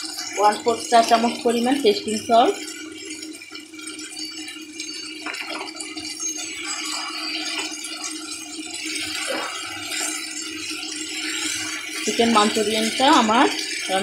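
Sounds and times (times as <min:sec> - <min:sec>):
sauce simmering: 0:00.0 - 0:14.0
spatula stirring sauce in pan: 0:00.0 - 0:14.0.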